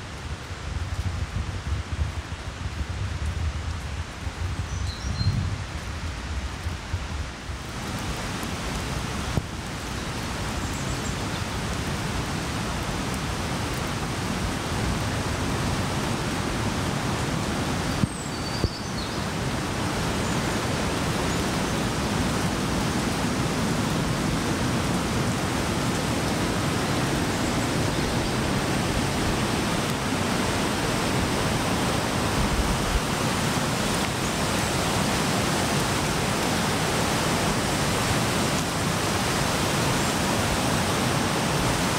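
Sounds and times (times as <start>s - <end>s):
whitewater rushing over rocks: 7.5s - 41.9s.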